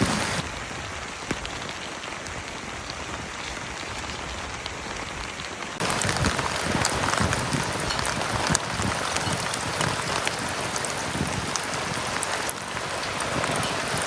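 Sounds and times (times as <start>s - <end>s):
steady rain falling: 0.0s - 14.0s
raindrop ticks: 0.2s - 14.0s.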